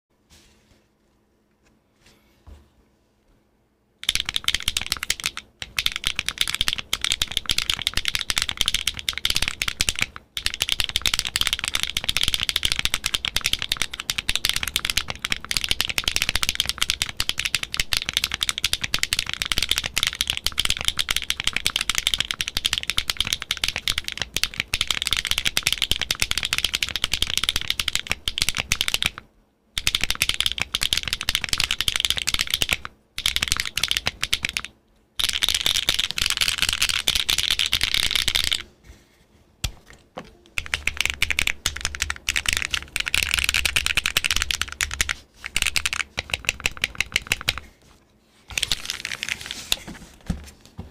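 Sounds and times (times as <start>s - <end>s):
fast typing on mechanical keyboard: 4.0s - 38.6s, 40.6s - 47.7s, 48.5s - 49.4s.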